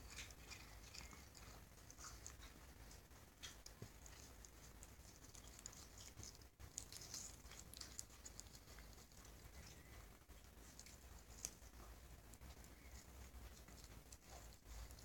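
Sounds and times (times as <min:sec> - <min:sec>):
cat crunching lettuce: 0:00.0 - 0:15.0.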